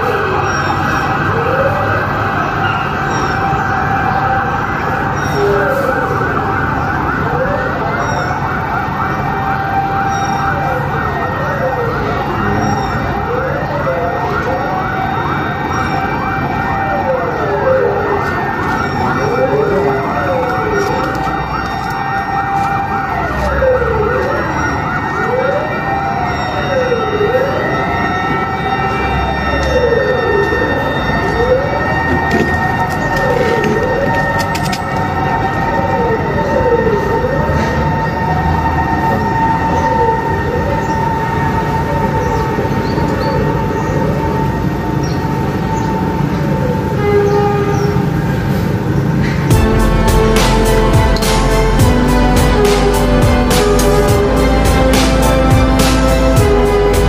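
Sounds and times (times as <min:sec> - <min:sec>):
siren wailing: 0:00.0 - 0:57.0
steady background noise: 0:00.0 - 0:57.0.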